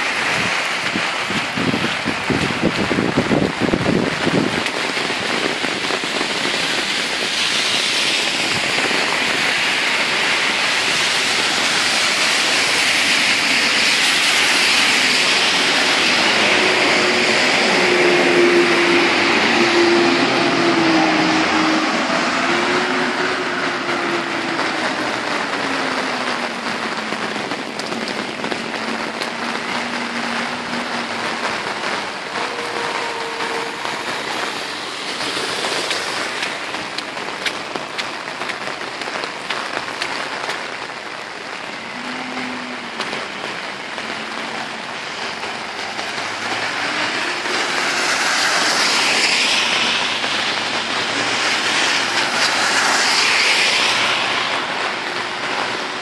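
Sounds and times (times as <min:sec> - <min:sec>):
cars passing on wet road: 0:00.0 - 0:56.0
heavy rain pouring on pavement: 0:00.0 - 0:56.0.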